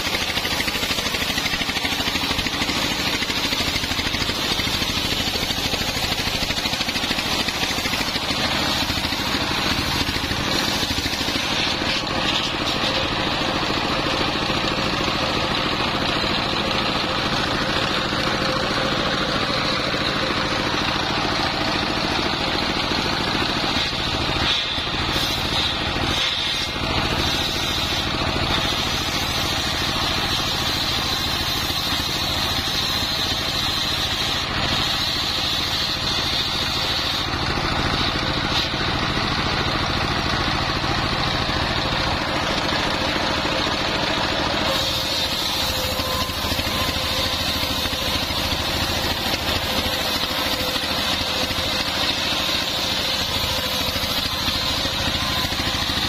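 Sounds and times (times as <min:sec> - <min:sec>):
circular saw blade whine: 0:00.0 - 0:56.0
diesel engine running: 0:00.0 - 0:56.0.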